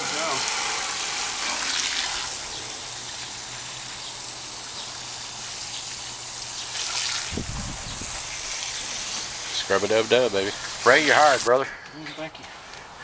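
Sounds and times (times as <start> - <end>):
water spraying onto a coil: 0.0 - 11.5.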